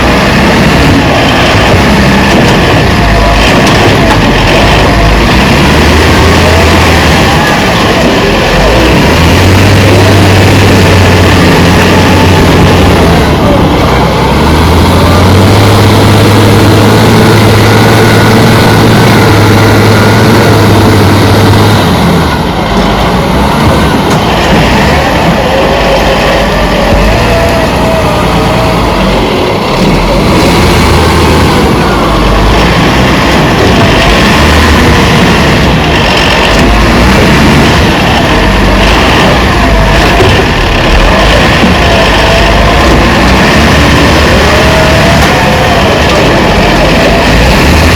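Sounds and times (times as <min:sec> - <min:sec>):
heavy diesel engine: 0:00.0 - 0:47.9.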